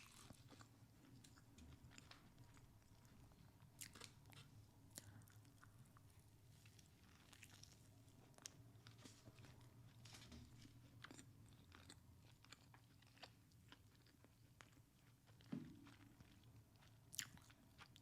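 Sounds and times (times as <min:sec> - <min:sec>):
close chewing crunches: 0:00.0 - 0:09.7, 0:10.6 - 0:18.0.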